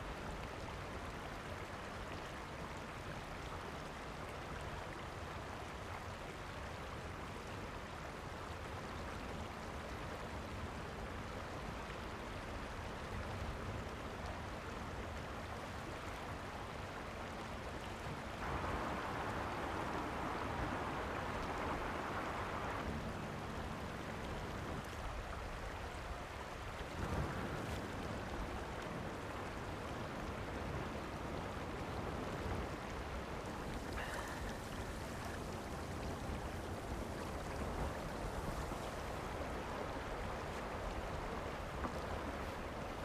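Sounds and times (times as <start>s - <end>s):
river flowing: 0.0s - 43.0s.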